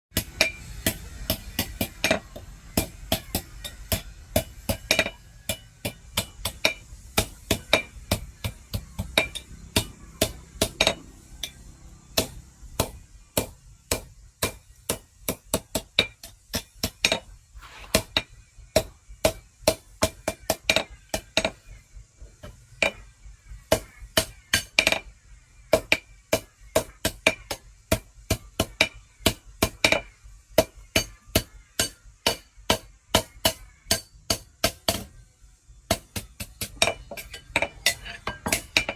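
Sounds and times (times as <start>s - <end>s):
hammer striking steel on anvil: 0.2s - 21.8s, 23.7s - 25.1s, 25.7s - 35.2s, 35.9s - 38.9s.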